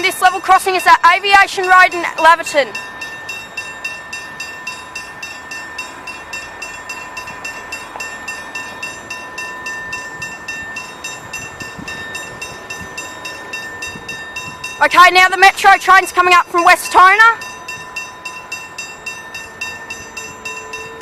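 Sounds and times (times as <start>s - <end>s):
level crossing warning bells: 0.0s - 21.0s.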